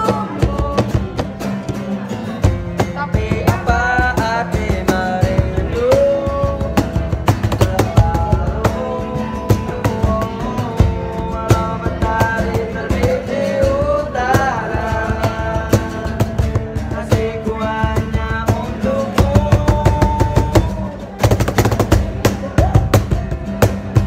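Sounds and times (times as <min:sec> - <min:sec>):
acoustic guitar: 0:00.0 - 0:24.0
hand slapping cajon beat: 0:00.0 - 0:24.0
young man singing: 0:00.0 - 0:24.0.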